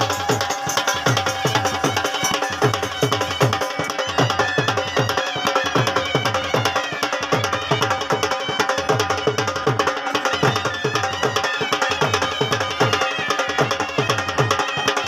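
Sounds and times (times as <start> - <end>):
traditional-style music with drum beat: 0.0 - 15.0.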